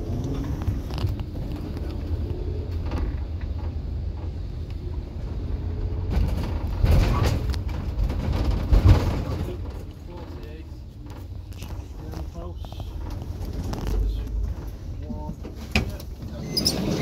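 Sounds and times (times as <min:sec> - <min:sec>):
engine and road rumble: 0:00.0 - 0:17.0
knocks and rattles: 0:00.9 - 0:17.0.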